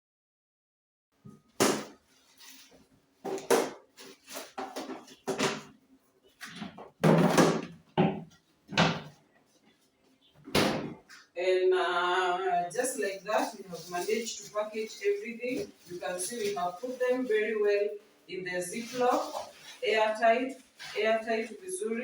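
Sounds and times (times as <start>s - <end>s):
plastic bags of vegetables handled: 1.5s - 22.0s.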